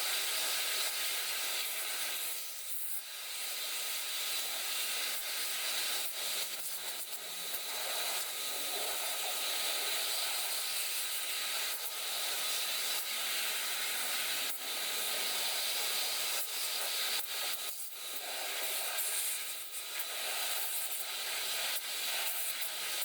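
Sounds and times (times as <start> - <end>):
spray nozzle hissing: 1.4 - 23.0.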